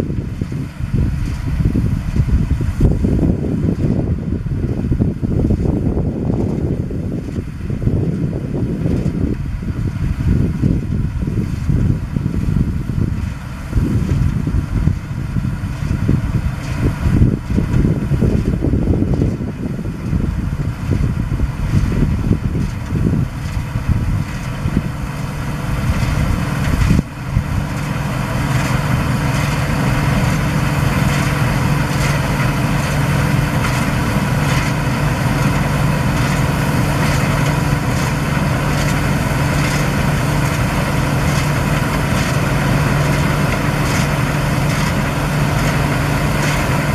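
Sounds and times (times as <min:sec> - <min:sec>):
combine harvester engine rumble: 0:00.0 - 0:46.9.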